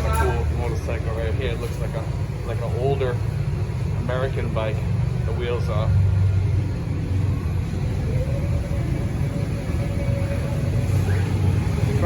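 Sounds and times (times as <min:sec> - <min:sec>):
passing road traffic rumble: 0:00.0 - 0:12.0.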